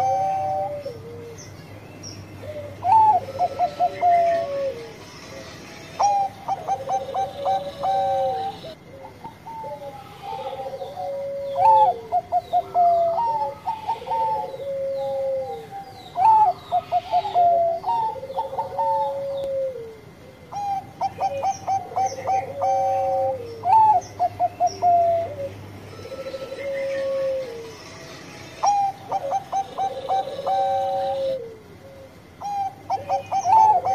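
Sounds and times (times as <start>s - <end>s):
dove cooing: 0.0s - 1.6s, 2.3s - 33.9s.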